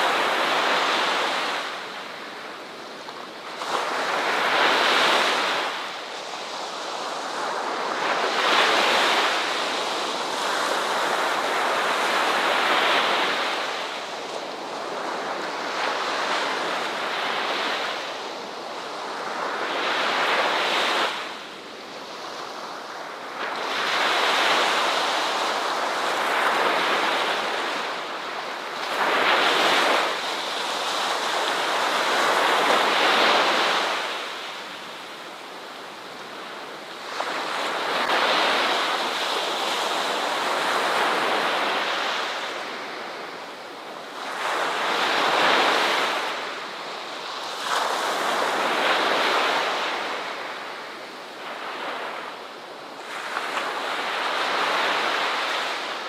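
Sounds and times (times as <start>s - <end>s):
ocean surf on a beach: 0.0s - 56.0s.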